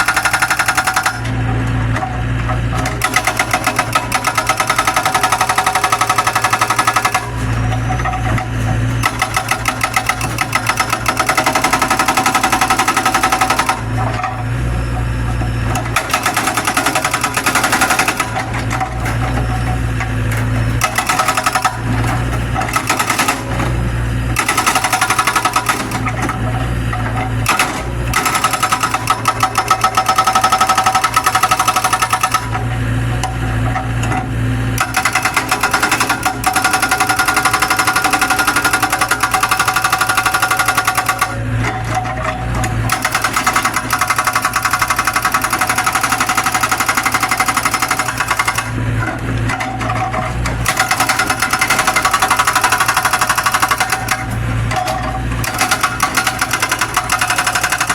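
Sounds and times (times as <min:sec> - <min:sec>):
diesel engine running: 0:00.0 - 0:57.9
hydraulic breaker hammer pounding: 0:00.0 - 0:57.9.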